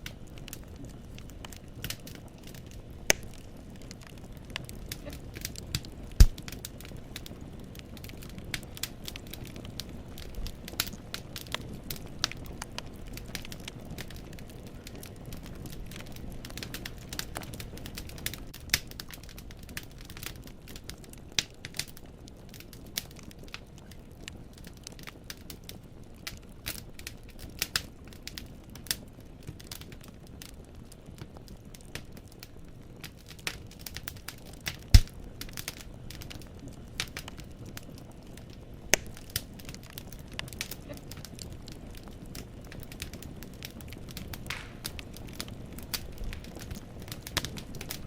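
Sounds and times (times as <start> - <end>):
firewood crackling and popping: 0.0 - 48.0
low rumble of flames: 0.0 - 48.0.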